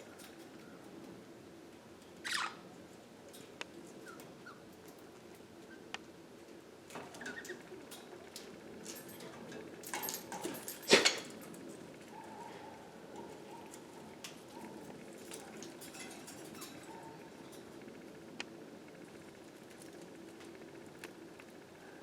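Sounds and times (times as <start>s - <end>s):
birds pecking and scratching: 0.0s - 21.7s.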